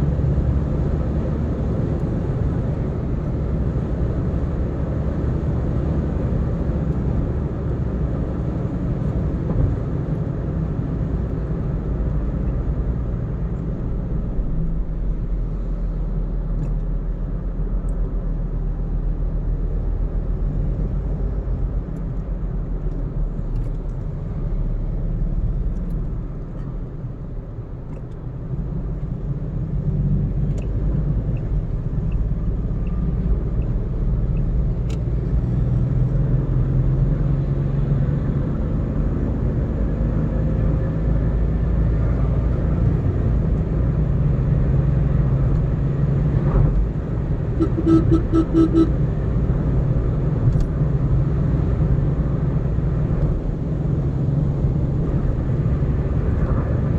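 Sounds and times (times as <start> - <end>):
car driving rumble: 0.0 - 56.9.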